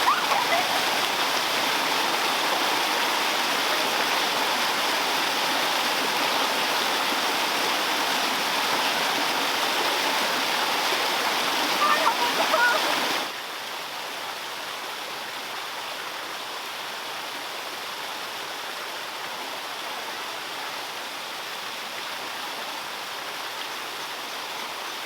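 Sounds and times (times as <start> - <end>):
flowing water: 0.0 - 25.0.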